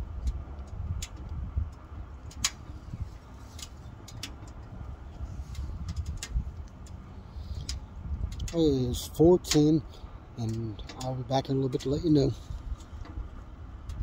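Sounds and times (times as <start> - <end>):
low steady rumble: 0.0 - 14.0
wood stove clicks and crackles: 0.0 - 14.0.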